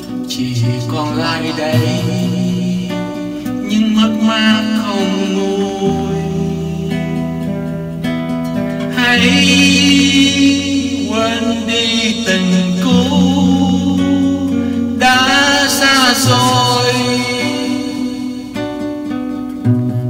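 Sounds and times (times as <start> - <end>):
person singing: 0.0 - 7.7, 8.8 - 19.1
guitar accompaniment: 0.0 - 20.0.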